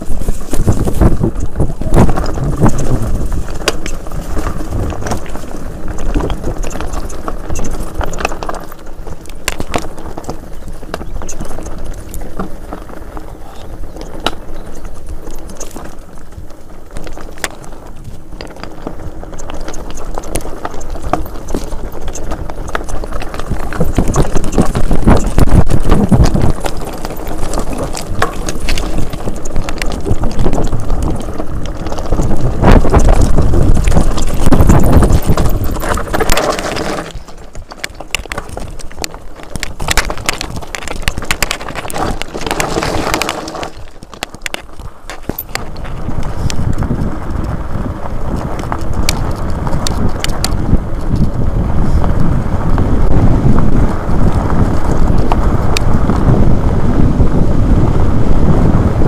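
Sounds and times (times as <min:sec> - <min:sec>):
tyres crunching over stones: 0:00.0 - 0:57.3
bike rattling over bumps: 0:00.0 - 0:59.0
wind rumble on microphone: 0:00.0 - 0:59.0.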